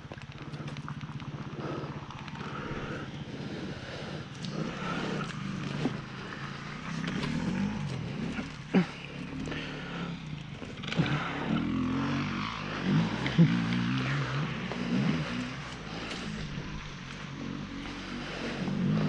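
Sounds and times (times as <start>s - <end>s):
dirt bike engine idling: 0.0s - 19.0s.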